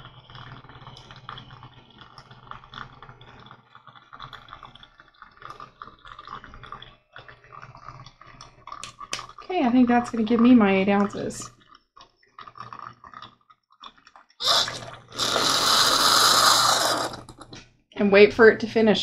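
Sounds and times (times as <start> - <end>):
faint pump hum: 0.0 - 11.6, 14.4 - 19.0
coffee dripping into a cup: 0.0 - 17.6.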